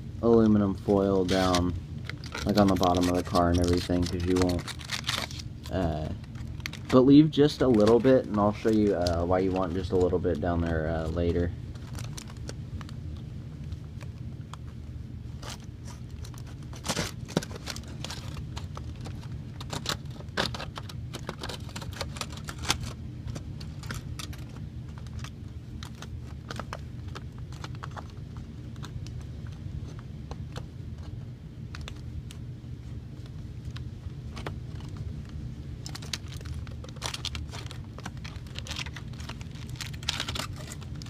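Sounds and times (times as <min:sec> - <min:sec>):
steady low hum: 0:00.0 - 0:41.0
aluminum foil crinkling: 0:00.9 - 0:41.0.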